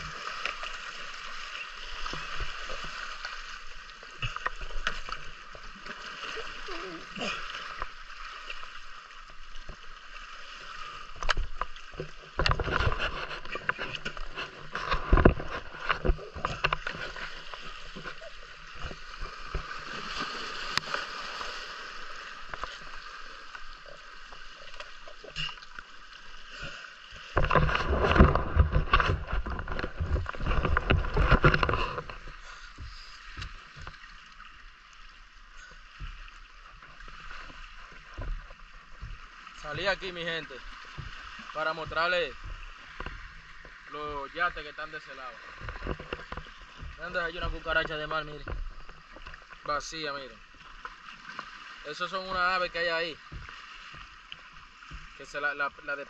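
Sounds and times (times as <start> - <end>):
muffled sea water sloshing on rocks: 0.0 - 56.0
water splashing: 0.0 - 56.0.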